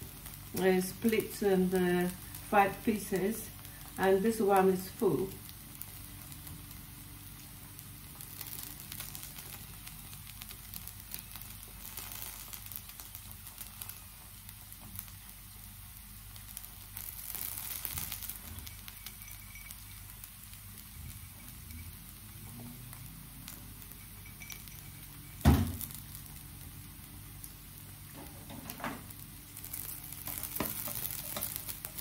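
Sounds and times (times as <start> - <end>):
pancake sizzling in oil: 0.0 - 32.0.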